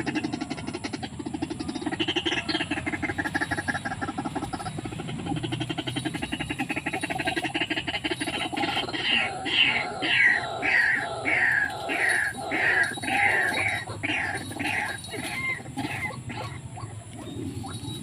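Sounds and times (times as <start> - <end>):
waterhen croaking calls: 0.0 - 18.0.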